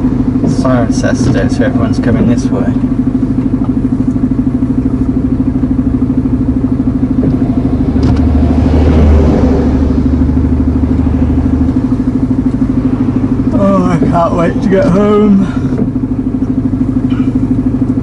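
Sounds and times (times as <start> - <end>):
deep rumble: 0.0 - 18.0
diesel engine droning: 0.0 - 18.0.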